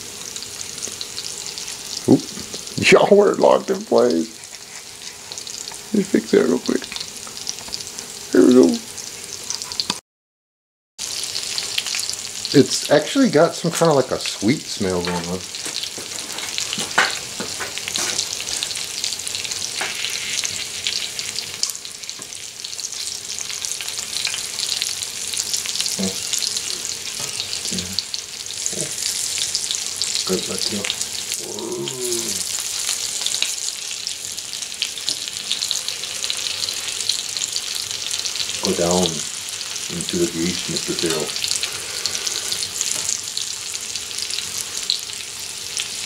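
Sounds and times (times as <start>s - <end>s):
meat sizzling in a skillet: 0.0s - 10.0s, 11.0s - 46.0s.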